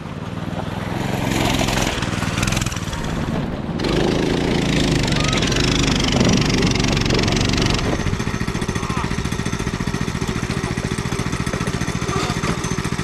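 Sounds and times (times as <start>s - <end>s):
go-kart engine idling: 0.0s - 13.0s.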